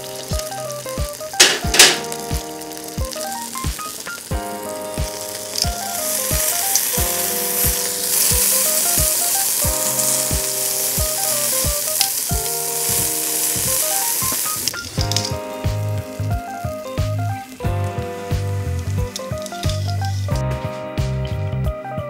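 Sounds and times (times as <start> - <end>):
meat sizzling on grill: 0.0 - 20.5
background music with beat: 0.0 - 22.0.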